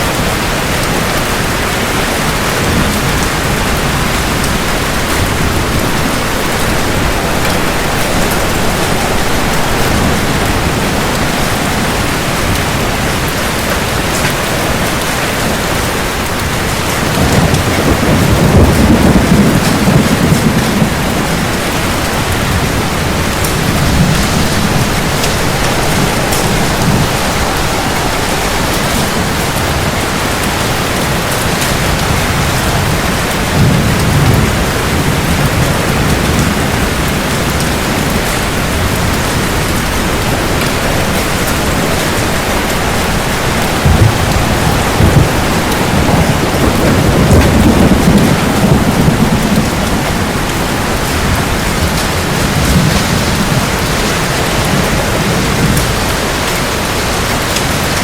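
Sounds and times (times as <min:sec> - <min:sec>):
heavy rain: 0:00.0 - 0:58.0
rolling thunder: 0:00.0 - 0:58.0.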